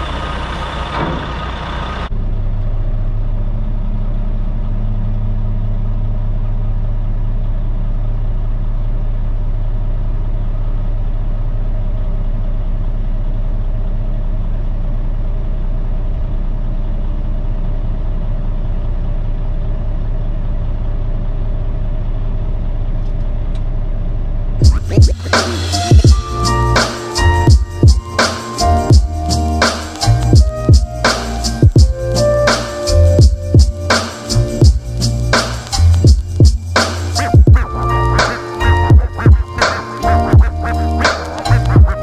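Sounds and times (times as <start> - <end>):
diesel truck engine hum: 0.0 - 42.0.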